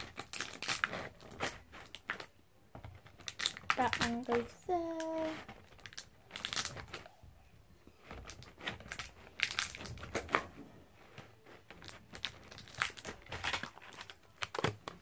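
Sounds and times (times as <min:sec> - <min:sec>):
crinkling rustles: 0:00.0 - 0:15.0.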